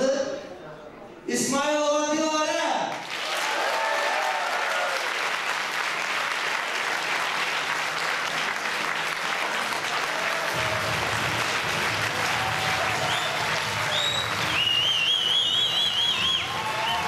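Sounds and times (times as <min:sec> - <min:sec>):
audience applauding: 0:02.9 - 0:17.0.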